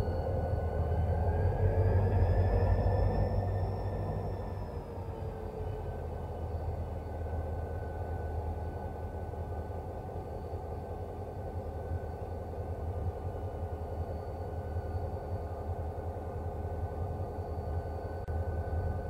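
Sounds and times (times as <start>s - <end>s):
diesel locomotive idling: 0.0s - 19.0s
faint steady whine: 0.0s - 19.0s.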